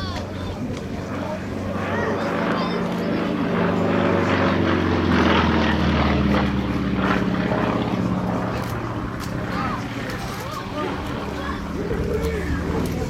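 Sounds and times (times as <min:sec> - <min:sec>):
propeller aircraft engine passing: 0:00.0 - 0:13.0.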